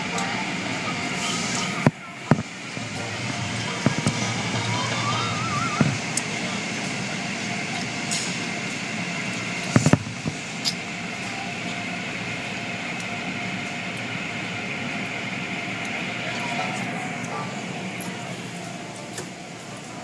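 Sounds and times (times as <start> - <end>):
car wash motor: 0.0 - 20.0.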